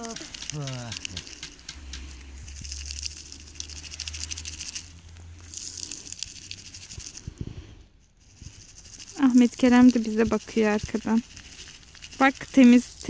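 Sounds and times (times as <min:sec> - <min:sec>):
sand pattering through a colander: 0:00.0 - 0:07.4, 0:08.2 - 0:13.0.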